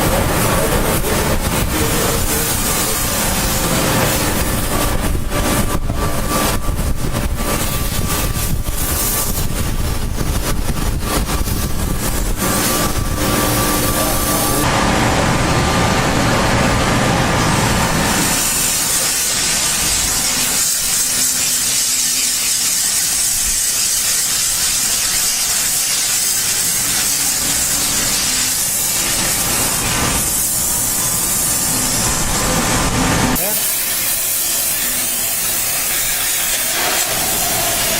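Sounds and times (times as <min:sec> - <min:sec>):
steam cleaner hissing: 0:00.0 - 0:15.0, 0:17.2 - 0:37.9.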